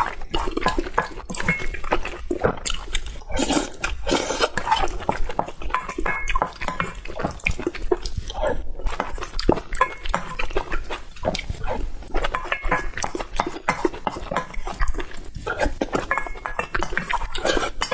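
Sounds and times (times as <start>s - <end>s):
wet chewing and mouth smacking: 0.0s - 17.9s.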